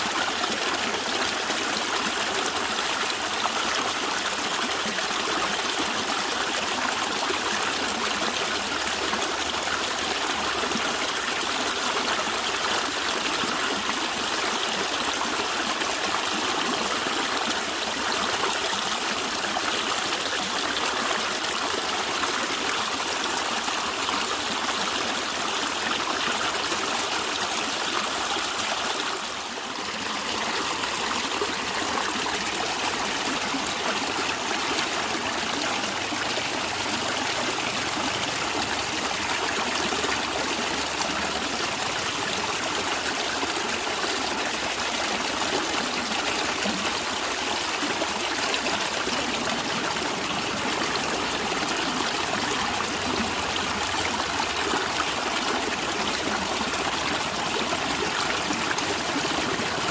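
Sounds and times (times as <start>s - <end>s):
stream gurgling over rocks: 0.0s - 59.9s.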